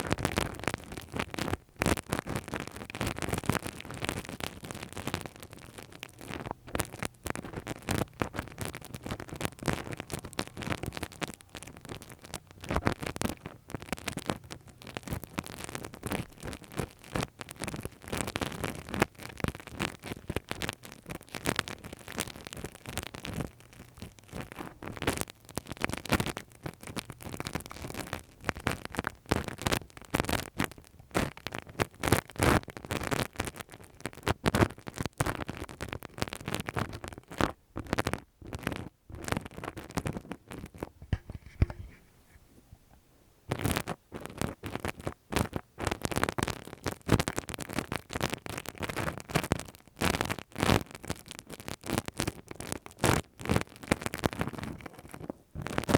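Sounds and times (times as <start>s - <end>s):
scratching against microphone: 0.0s - 55.9s.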